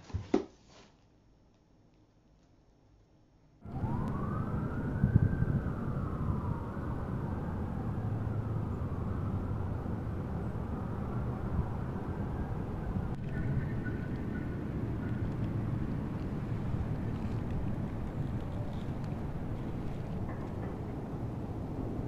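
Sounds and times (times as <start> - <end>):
distant siren wailing: 3.6 - 22.0.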